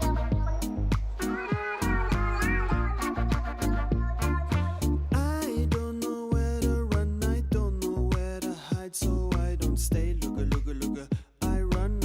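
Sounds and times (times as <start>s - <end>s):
music with danceable beat: 0.0s - 7.1s, 7.8s - 12.0s.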